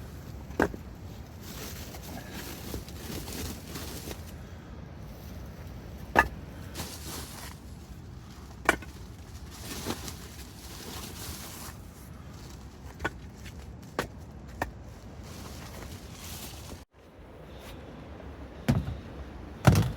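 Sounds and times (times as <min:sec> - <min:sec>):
low outdoor rumble: 0:00.0 - 0:19.9.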